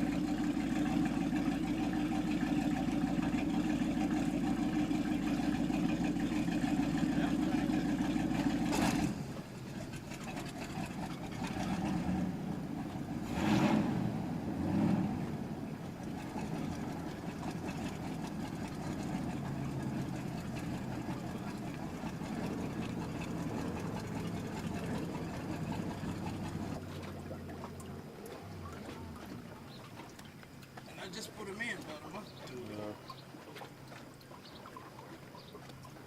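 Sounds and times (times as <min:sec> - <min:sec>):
boat engine idling: 0:00.0 - 0:36.0.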